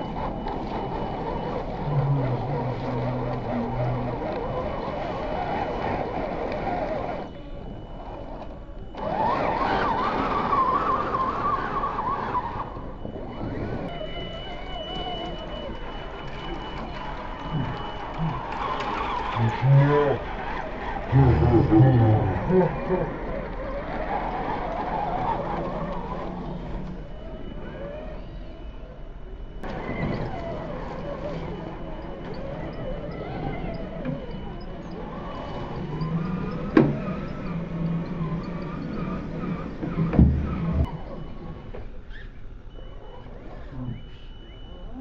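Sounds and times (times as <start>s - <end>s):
electric motor and gears whining: 0.0s - 42.4s.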